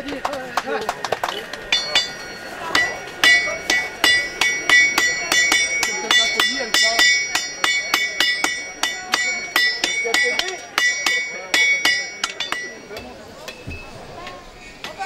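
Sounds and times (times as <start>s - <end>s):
sledgehammers striking anvil: 1.0s - 13.9s.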